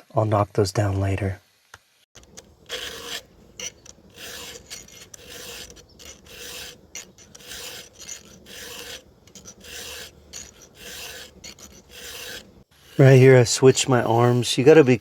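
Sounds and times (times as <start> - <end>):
file rasping on chainsaw chain: 2.2 - 15.0.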